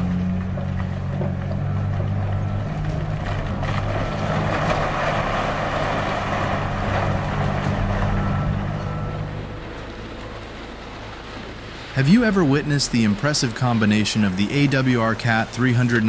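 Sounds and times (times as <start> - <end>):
excavator diesel engine running: 0.0 - 16.0
rough noise: 0.0 - 16.0.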